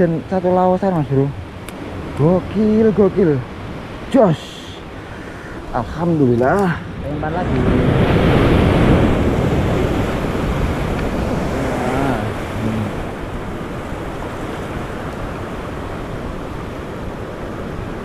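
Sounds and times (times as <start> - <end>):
sea surf on rocky shore: 0.0 - 18.0.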